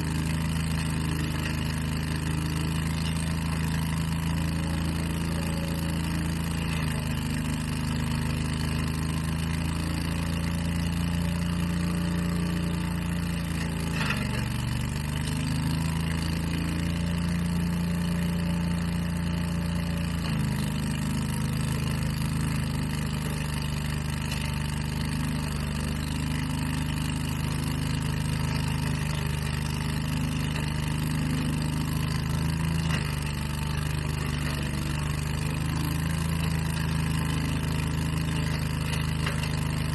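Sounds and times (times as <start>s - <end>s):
leaf blower engine running: 0.0s - 39.9s.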